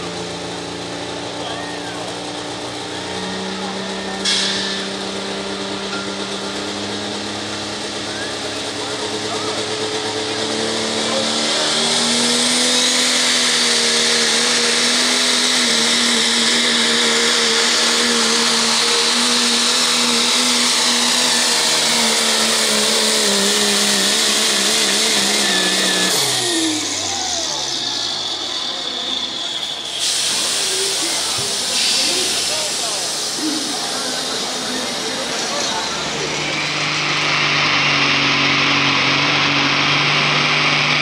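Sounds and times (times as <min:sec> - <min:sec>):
diesel truck engine at full throttle: 0:00.0 - 0:41.0.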